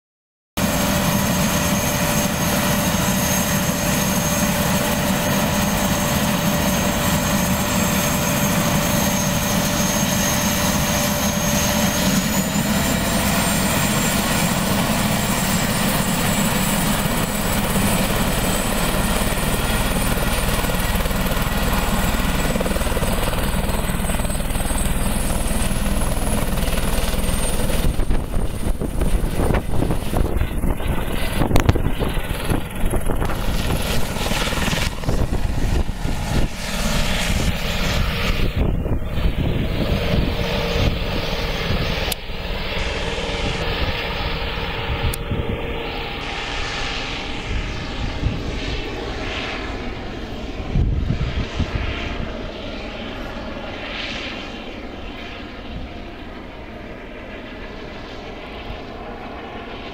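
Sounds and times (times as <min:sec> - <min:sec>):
helicopter rotor noise: 0:00.6 - 0:59.9
helicopter turbine whine: 0:00.6 - 0:59.9.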